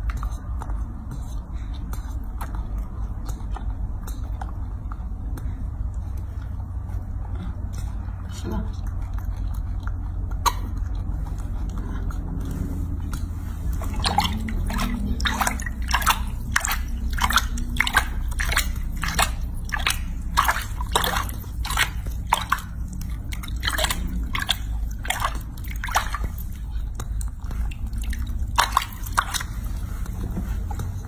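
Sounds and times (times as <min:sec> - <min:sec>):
monkey chewing with lip-smacking: 0:00.0 - 0:31.0
steady low hum: 0:00.0 - 0:31.0.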